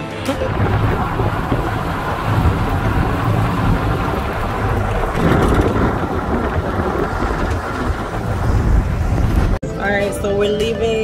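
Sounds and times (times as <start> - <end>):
low vehicle rumble: 0.2 - 10.4
wind over microphone: 0.4 - 9.6.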